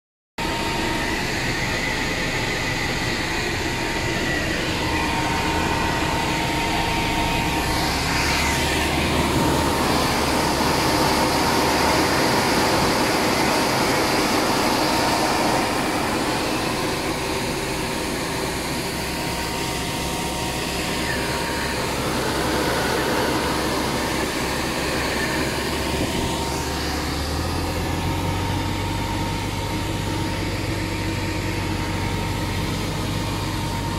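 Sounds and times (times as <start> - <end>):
road-sweeper truck machinery: 0.4 - 33.9
thin steady whine: 0.4 - 33.9.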